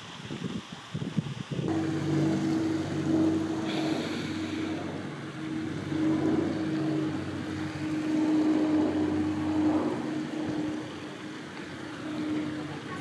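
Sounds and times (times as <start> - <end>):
motor hum: 1.7 - 13.0.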